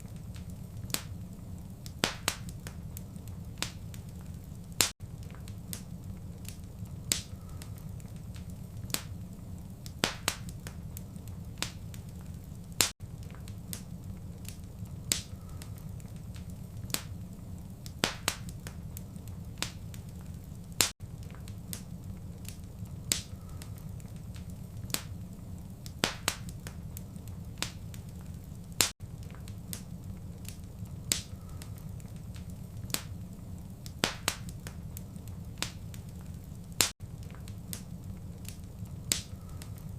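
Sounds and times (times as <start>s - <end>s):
low rumble of flame: 0.0s - 39.9s
sharp pops and snaps: 0.0s - 39.9s
wood fire crackling: 0.0s - 39.9s.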